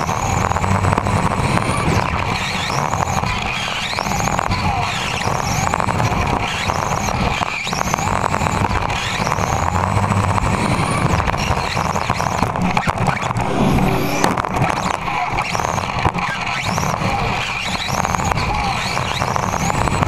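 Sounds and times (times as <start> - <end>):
rc car motor whining: 0.0 - 20.0.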